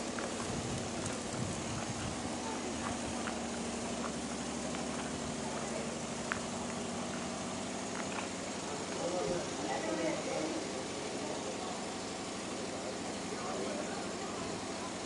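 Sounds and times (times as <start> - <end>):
constant hiss: 0.0 - 15.0
machine hum: 0.0 - 15.0.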